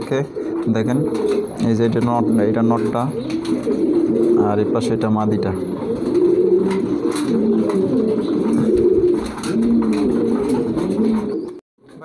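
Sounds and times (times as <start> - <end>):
pigeons cooing: 0.0 - 11.6.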